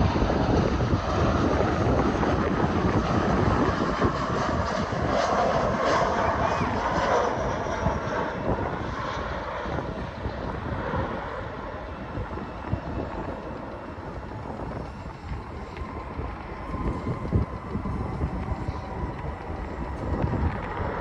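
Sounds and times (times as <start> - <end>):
airliner engine noise: 0.0 - 21.0
wind on microphone: 0.0 - 21.0.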